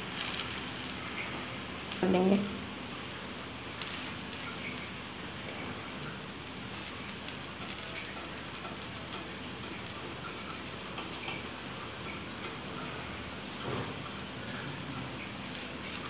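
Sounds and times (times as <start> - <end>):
batter sizzling on a hot pan: 0.0 - 16.0.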